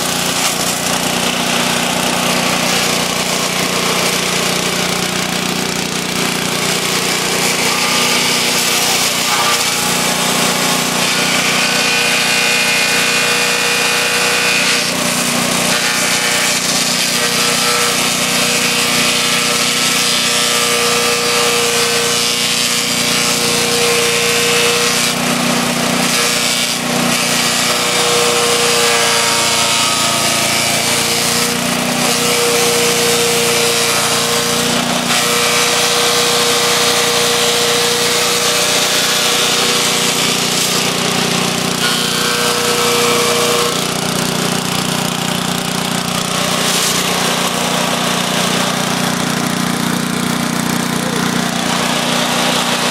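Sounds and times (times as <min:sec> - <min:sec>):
wood being chipped: 0:00.0 - 0:52.9
wood chipper engine hum: 0:00.0 - 0:52.9.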